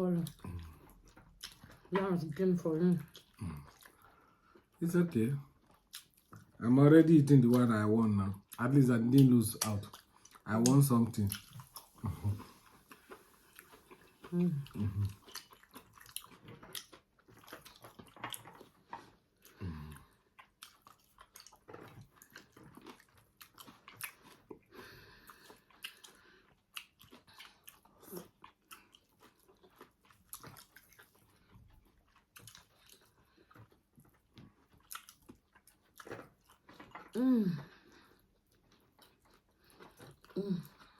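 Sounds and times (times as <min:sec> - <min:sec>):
chewing: 0:00.1 - 0:06.6, 0:07.2 - 0:40.9.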